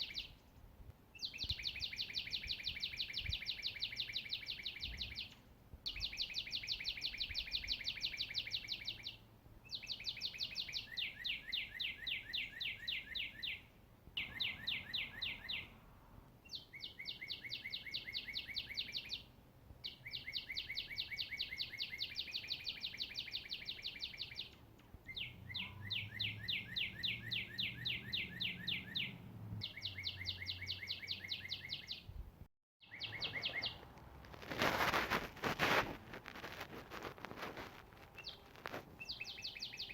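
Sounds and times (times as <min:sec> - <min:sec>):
songbird trilling: 0:00.0 - 0:00.4, 0:01.2 - 0:15.7, 0:16.5 - 0:32.1, 0:32.8 - 0:33.8, 0:38.2 - 0:39.9.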